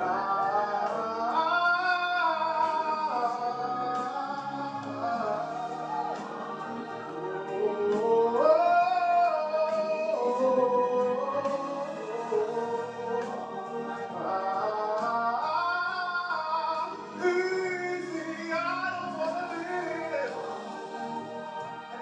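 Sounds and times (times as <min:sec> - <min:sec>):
music: 0:00.0 - 0:22.0
person singing long sliding notes: 0:00.0 - 0:22.0.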